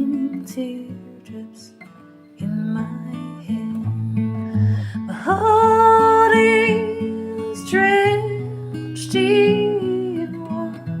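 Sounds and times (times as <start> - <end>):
person singing slow ballad: 0.0 - 1.8, 2.4 - 11.0
plucked acoustic guitar: 0.0 - 11.0.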